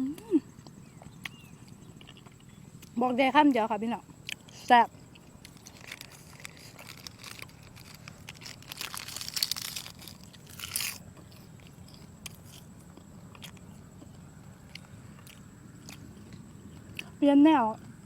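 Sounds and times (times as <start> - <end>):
person chewing crunchy food: 0.5 - 3.0, 4.0 - 17.2.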